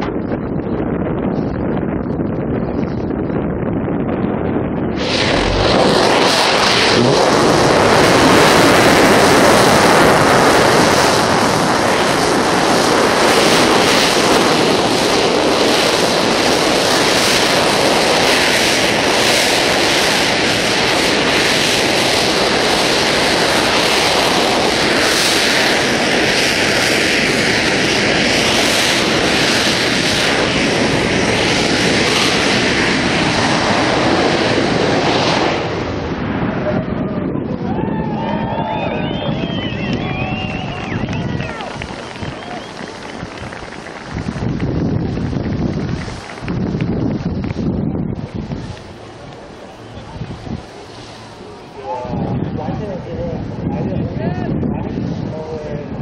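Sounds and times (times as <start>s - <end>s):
rocket engine firing: 0.0s - 53.6s.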